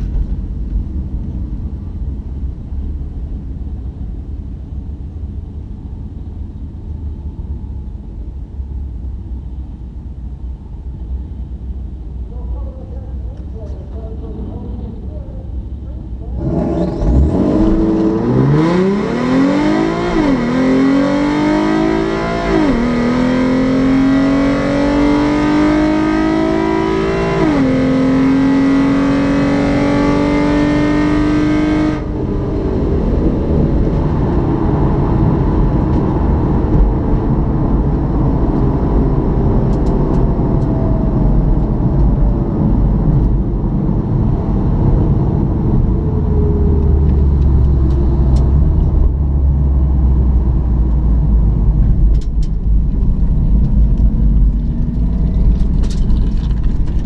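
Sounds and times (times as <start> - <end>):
car engine at full throttle: 0.0 - 57.0
road noise: 0.0 - 57.0.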